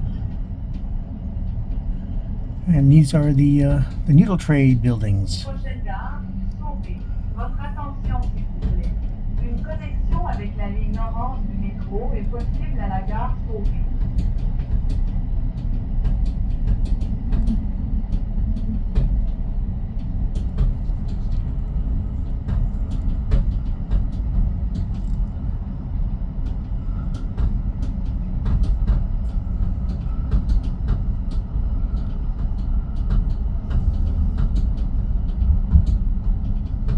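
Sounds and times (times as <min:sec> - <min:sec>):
train rumbling on track: 0:00.0 - 0:36.9.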